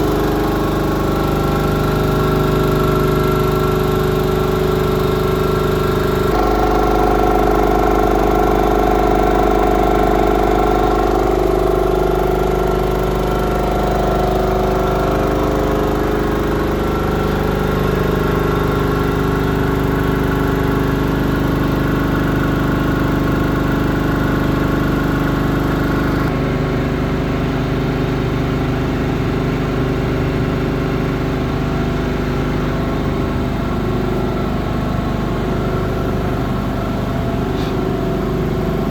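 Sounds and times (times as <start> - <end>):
air compressor running: 0.0 - 38.9.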